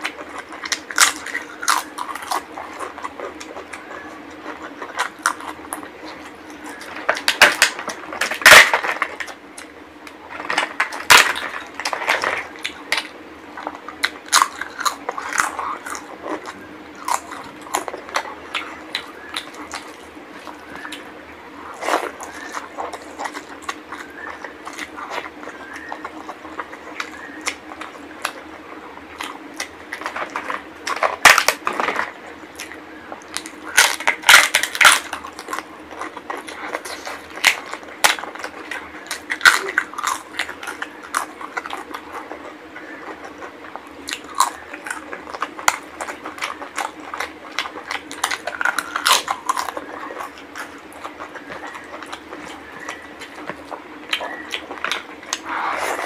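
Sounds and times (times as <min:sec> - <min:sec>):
crunching crisp papad: 0:00.0 - 0:56.0
faint steady hum: 0:00.0 - 0:56.0
wet chewing: 0:00.0 - 0:56.0.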